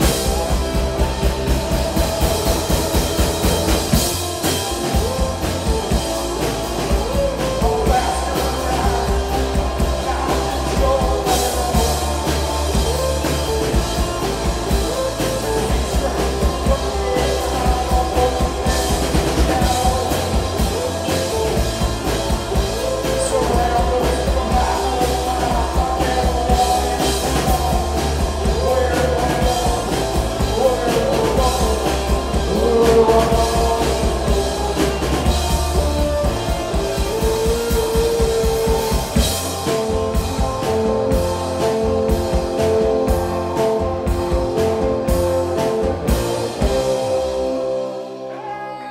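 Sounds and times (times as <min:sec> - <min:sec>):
distorted electric guitars: 0:00.0 - 0:48.9
driving drum kit: 0:00.0 - 0:48.9
live rock band playing: 0:00.0 - 0:48.9.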